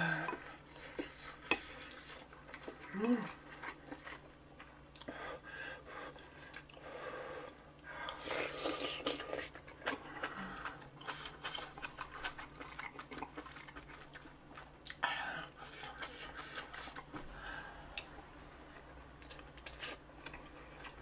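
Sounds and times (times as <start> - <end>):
person chewing food: 0.1 - 21.0.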